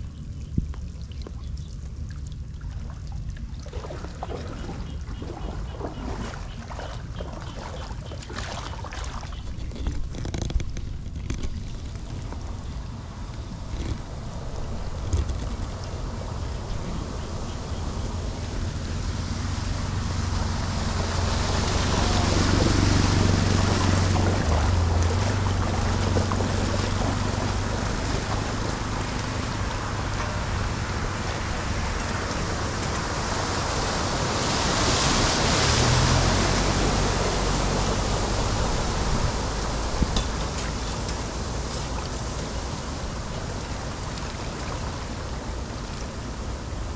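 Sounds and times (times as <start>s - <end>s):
floodwater washing over road: 0.0s - 46.9s
vehicle driving through water: 0.0s - 46.9s.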